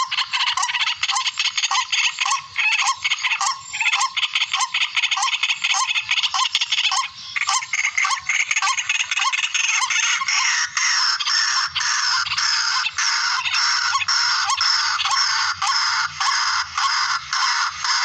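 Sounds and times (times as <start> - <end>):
recorded bird calls chorus: 0.0 - 18.0.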